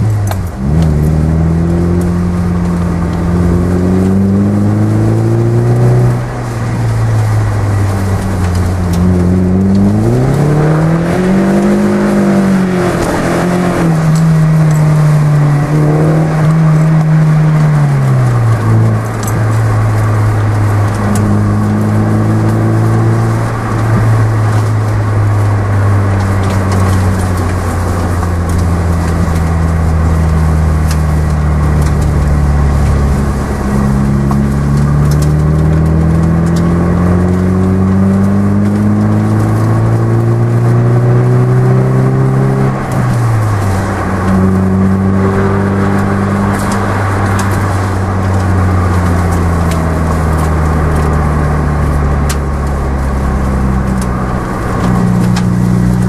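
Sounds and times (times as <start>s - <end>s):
car engine through exhaust: 0.0s - 56.0s.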